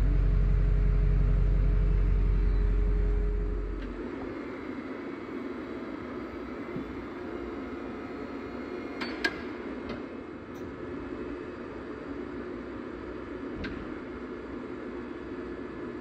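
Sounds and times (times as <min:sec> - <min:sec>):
liftgate mechanical hum: 0:00.0 - 0:16.0.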